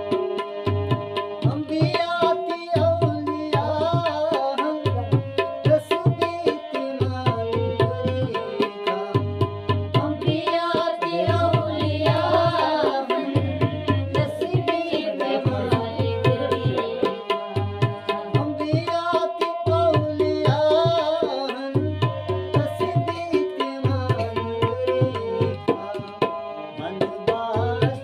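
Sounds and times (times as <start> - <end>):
harmonium chords: 0.0 - 28.0
tabla rhythm: 0.0 - 28.0
man singing: 1.4 - 28.0.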